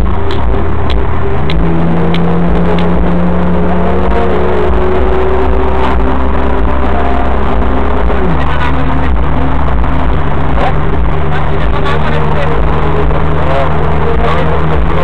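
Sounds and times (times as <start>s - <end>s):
car engine running: 0.0s - 15.0s
road and tyre noise: 0.0s - 15.0s.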